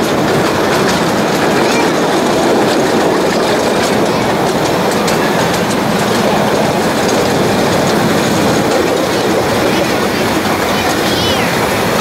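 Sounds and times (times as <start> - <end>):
wheels rumbling on rails: 0.0 - 12.0.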